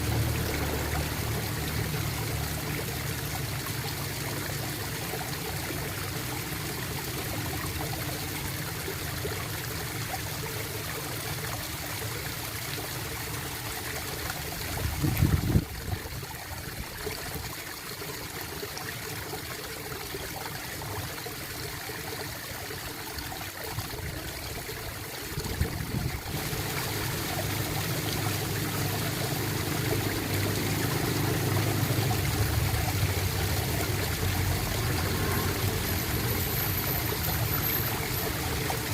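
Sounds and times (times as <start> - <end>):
water trickling and gurgling: 0.0 - 38.9.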